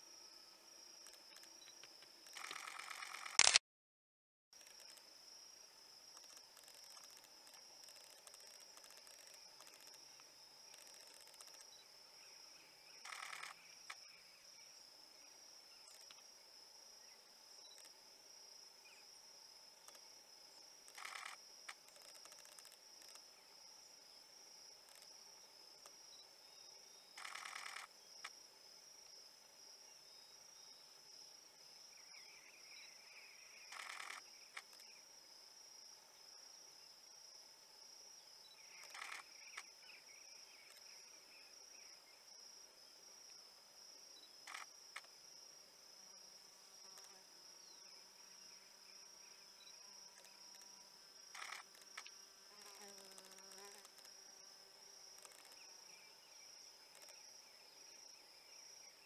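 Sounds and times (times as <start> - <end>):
insect chorus drone: 0.0 - 3.5, 4.6 - 59.0.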